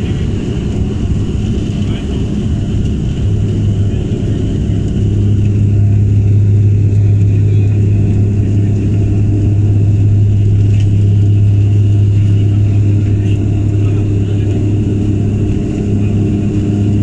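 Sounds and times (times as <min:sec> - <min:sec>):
turboprop engine drone in cabin: 0:00.0 - 0:17.0.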